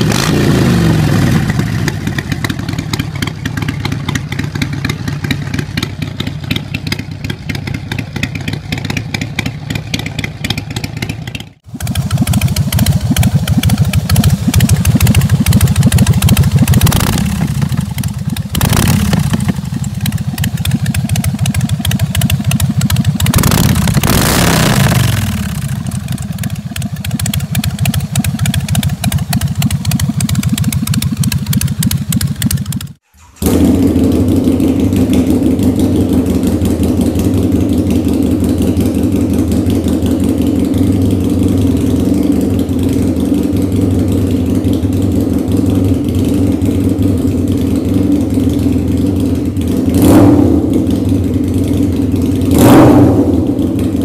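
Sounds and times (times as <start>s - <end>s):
motorcycle engine idling: 0.0s - 54.0s
motorcycle engine revving: 0.0s - 54.0s.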